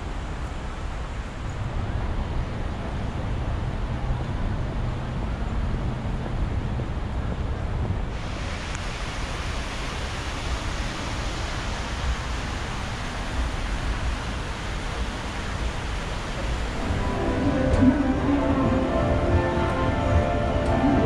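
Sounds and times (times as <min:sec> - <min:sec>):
city background noise: 0:00.0 - 0:21.0.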